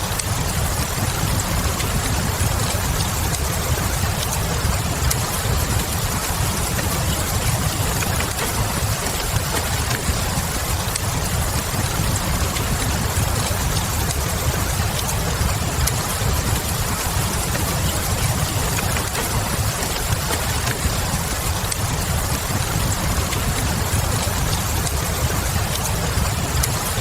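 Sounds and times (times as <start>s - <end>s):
constant low rumble: 0.0s - 27.0s
faint fire crackles: 0.0s - 27.0s
steady rain: 0.0s - 27.0s.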